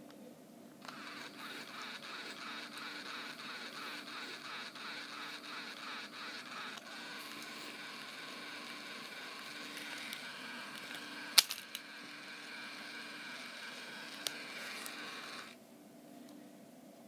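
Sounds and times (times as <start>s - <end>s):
robotic toy cat whirring: 0.8s - 15.6s.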